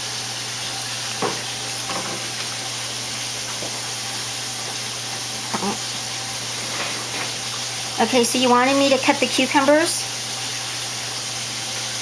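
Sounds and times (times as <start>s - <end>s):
kitchen noise hiss: 0.0s - 12.0s.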